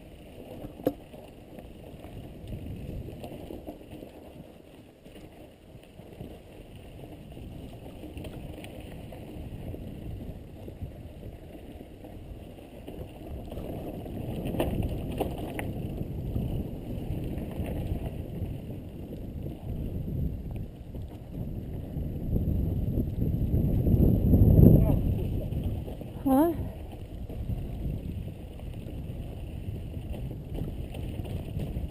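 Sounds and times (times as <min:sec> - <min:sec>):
bike rattling over bumps: 0:00.0 - 0:31.9
tyres rolling on dirt trail: 0:00.0 - 0:31.9
wind on camera microphone: 0:01.6 - 0:04.5, 0:05.8 - 0:31.9.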